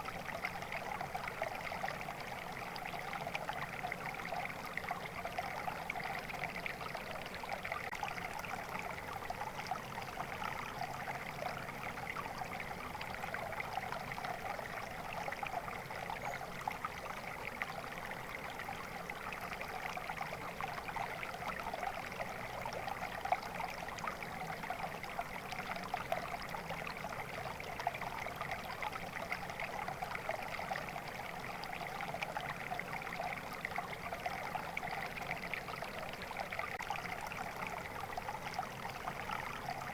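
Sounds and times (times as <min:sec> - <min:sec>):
water flowing and burbling: 0:00.0 - 0:39.9.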